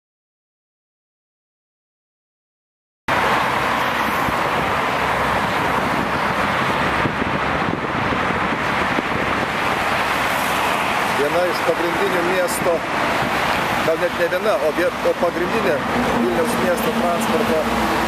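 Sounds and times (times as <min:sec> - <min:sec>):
cars passing on road: 0:03.1 - 0:18.0.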